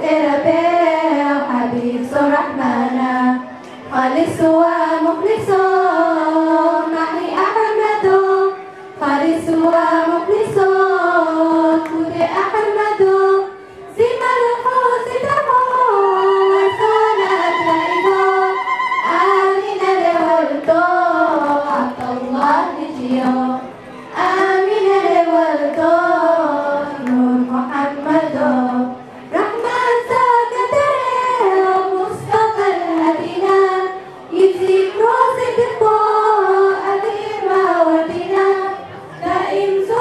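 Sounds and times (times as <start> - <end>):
choir of girls singing: 0.0 - 40.0.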